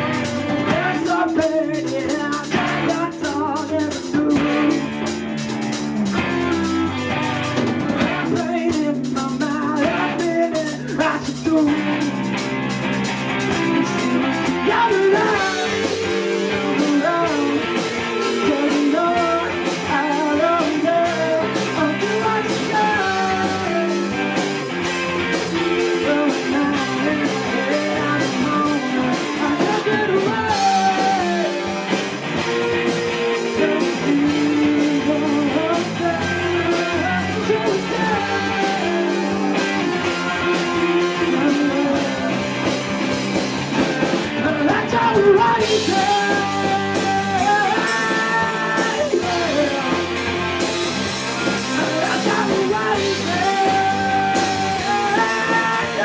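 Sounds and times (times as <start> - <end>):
person singing: 0.0 - 5.2, 6.0 - 12.4, 13.4 - 56.0
drums steady beat: 0.0 - 56.0
rock band playing live: 0.0 - 56.0.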